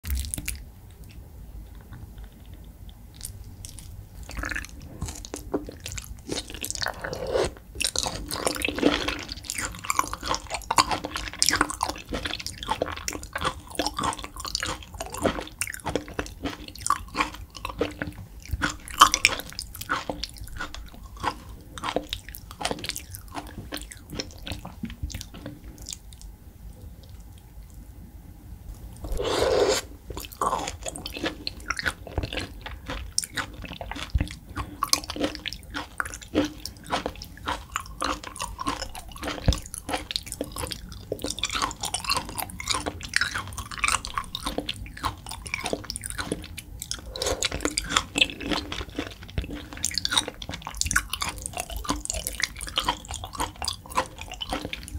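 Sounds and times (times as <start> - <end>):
chewing raw meat: 0.0 - 1.2, 1.9 - 27.8, 28.7 - 54.9.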